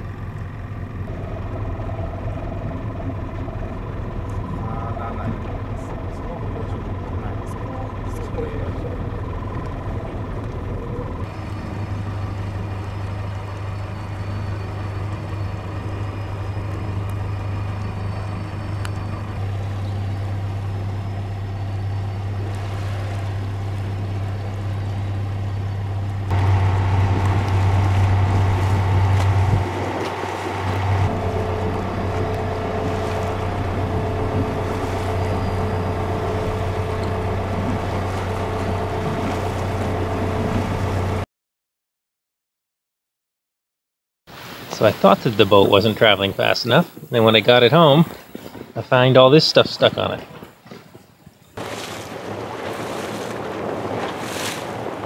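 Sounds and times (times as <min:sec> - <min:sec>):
water noise: 0:00.0 - 0:41.2, 0:44.3 - 0:55.0
motorboat engine humming: 0:00.0 - 0:41.3, 0:44.3 - 0:55.0.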